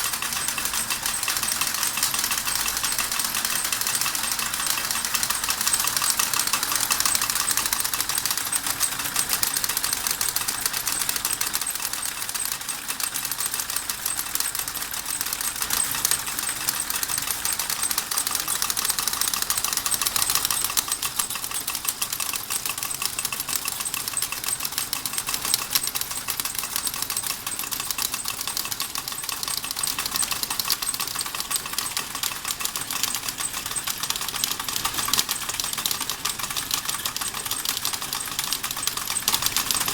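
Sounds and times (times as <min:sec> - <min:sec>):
model steam engine clattering: 0:00.0 - 0:39.9.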